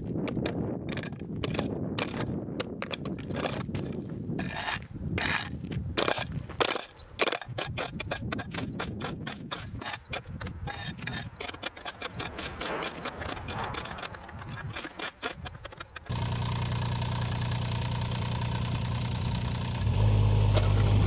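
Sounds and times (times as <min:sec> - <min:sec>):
hoe scraping asphalt grit: 0:00.9 - 0:21.0.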